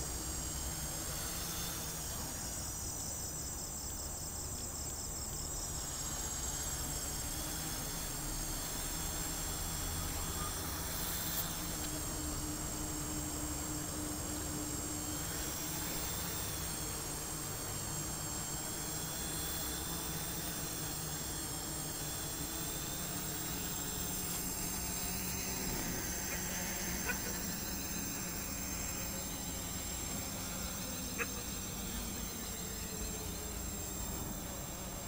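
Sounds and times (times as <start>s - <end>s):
drone motors buzzing: 0.0s - 35.0s.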